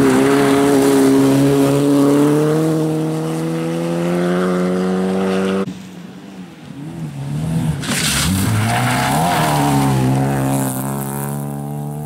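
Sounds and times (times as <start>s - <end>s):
rally car engine at high revs: 0.0s - 5.7s, 6.8s - 12.0s.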